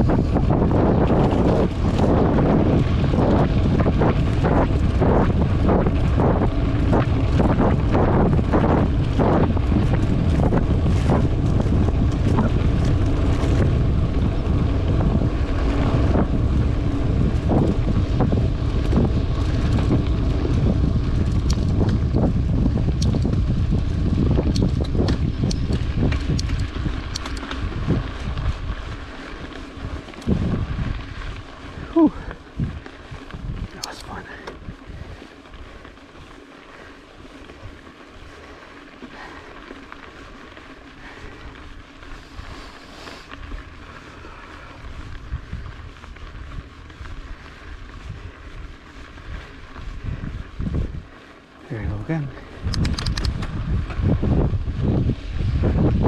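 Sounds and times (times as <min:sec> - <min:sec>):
bike knocking and rattling: 0:00.0 - 0:56.0
wind buffeting the microphone: 0:00.0 - 0:56.0.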